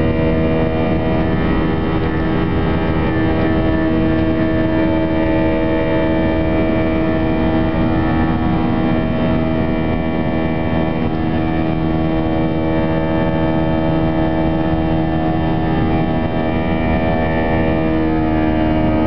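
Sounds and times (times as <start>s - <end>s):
jet engines heard from cabin: 0.0s - 19.0s.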